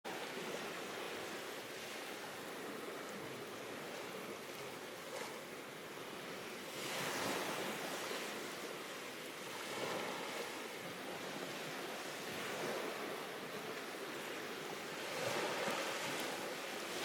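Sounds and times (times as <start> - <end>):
wind: 0.0 - 17.0
sea waves washing ashore: 0.1 - 17.0.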